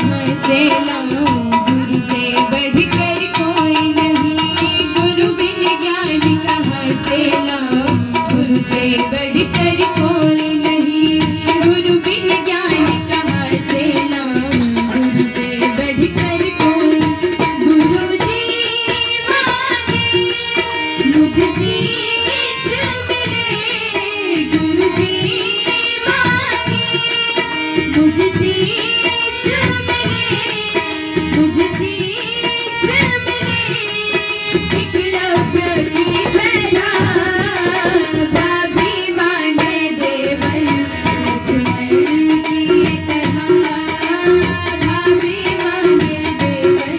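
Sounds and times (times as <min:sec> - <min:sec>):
woman singing devotional song: 0:00.0 - 0:46.9.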